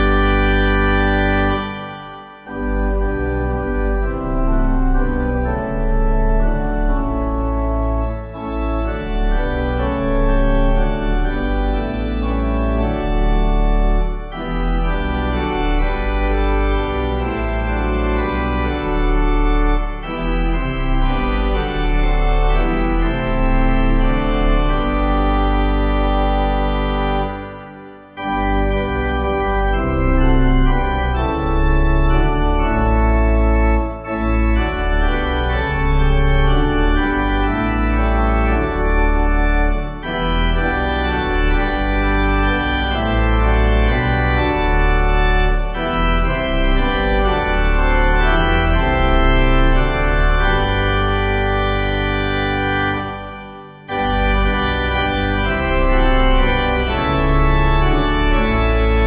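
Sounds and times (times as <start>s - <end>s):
church organ playing a hymn: 0.0s - 59.0s.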